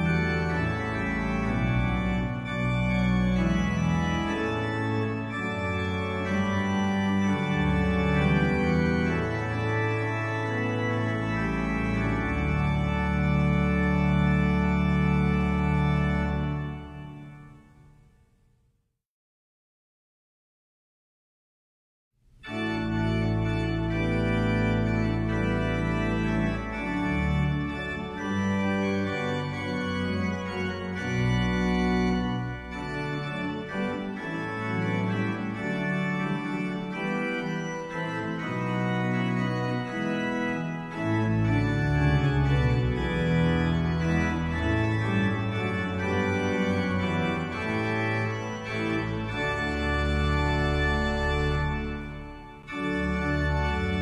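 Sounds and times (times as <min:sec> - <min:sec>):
organ playing chords: 0:00.0 - 0:18.0, 0:22.4 - 0:54.0.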